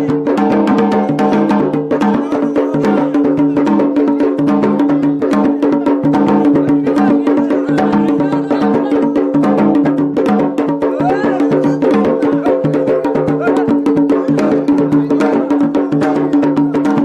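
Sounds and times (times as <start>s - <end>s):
fast drumming: 0.0s - 17.0s.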